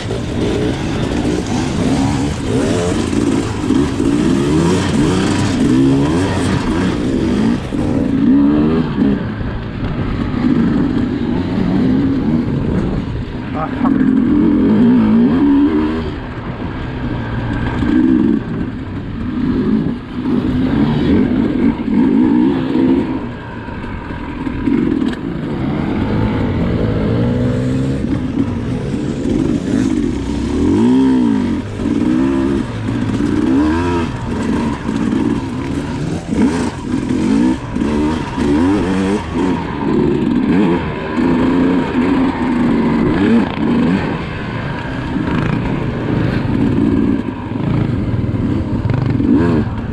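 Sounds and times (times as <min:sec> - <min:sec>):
two-stroke engine revving: 0:00.0 - 0:16.6, 0:24.0 - 0:49.9.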